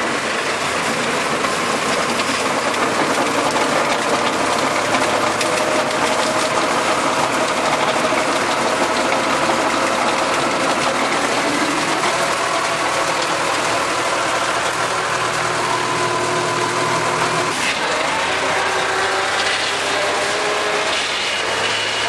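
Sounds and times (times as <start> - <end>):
rotavator working ground: 0.0 - 22.0
tractor engine running: 0.0 - 22.0.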